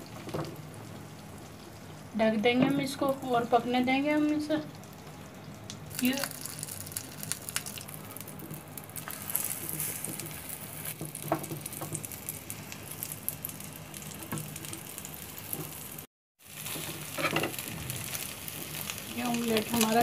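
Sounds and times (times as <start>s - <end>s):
omelette sizzling in a frying pan: 0.0s - 20.0s.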